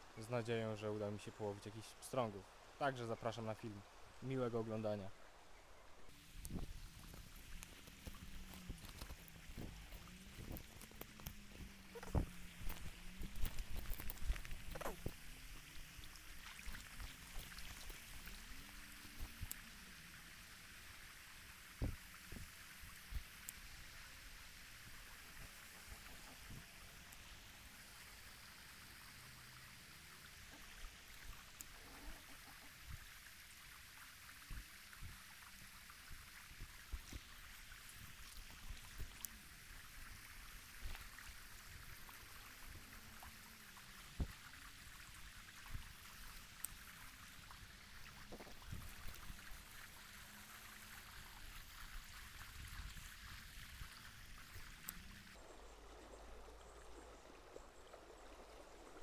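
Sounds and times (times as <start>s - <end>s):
river running over stones: 0.0s - 59.0s.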